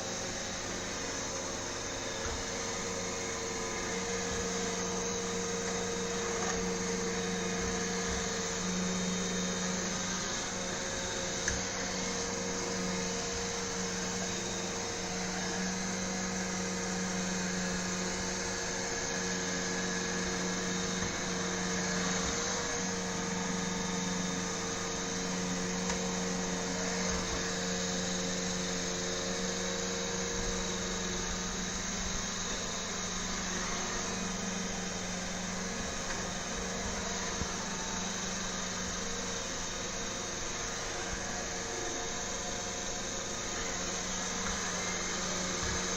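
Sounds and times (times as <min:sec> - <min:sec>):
robot vacuum running: 0:00.0 - 0:45.9.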